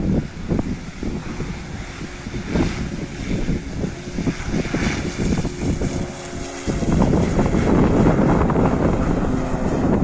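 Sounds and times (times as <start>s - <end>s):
gusty wind buffeting microphone: 0.0s - 10.0s.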